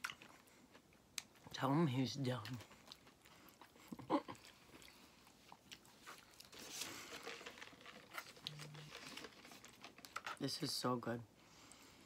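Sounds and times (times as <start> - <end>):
chewing and crunching food: 0.0 - 10.4.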